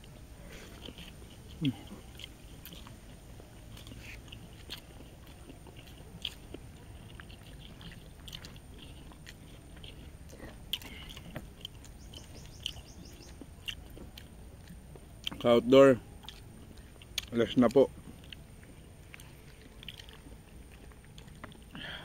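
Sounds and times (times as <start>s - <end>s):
chewing and mouth smacks: 0.0s - 22.0s.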